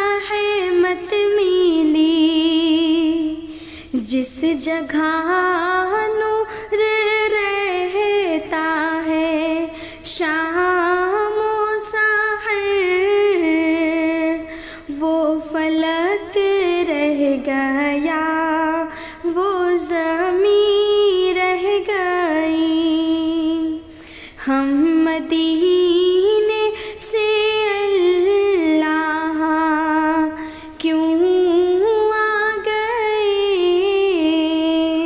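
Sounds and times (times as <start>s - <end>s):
woman singing unaccompanied: 0.0s - 35.0s.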